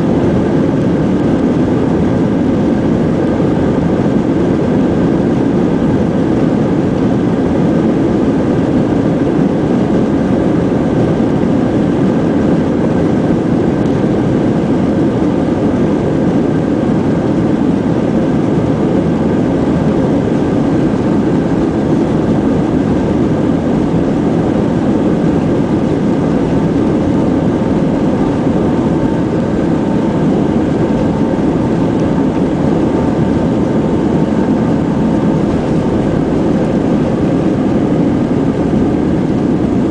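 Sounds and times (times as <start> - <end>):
jet engines and airflow in cabin: 0.0 - 39.9.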